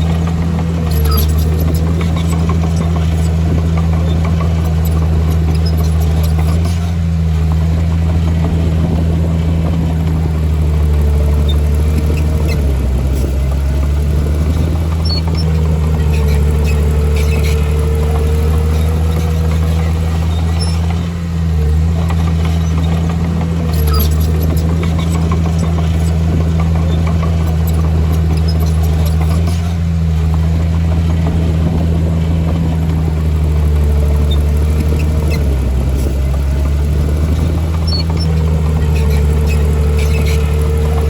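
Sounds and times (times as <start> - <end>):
heavy diesel engine under load: 0.0 - 41.0.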